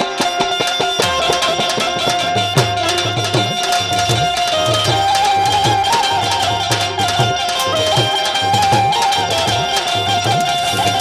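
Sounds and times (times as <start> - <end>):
held folk melody line: 0.0 - 11.0
tabla strokes: 0.0 - 11.0.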